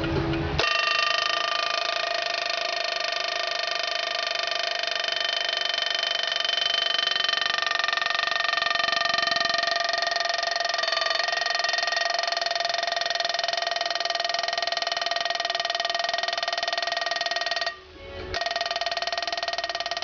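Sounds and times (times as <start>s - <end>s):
alarm clock bell ringing: 0.6s - 17.8s, 18.4s - 20.0s.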